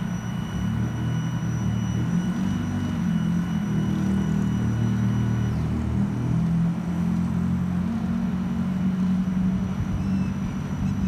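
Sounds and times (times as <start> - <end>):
jet engines rumbling overhead: 0.0 - 11.0
thin high whine: 0.0 - 11.0.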